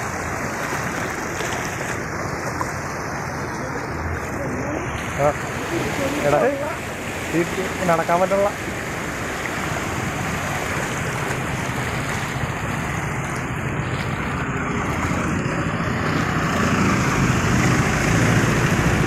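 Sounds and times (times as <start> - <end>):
engine hum: 0.0 - 19.0
water splashing under vehicles: 0.0 - 19.0.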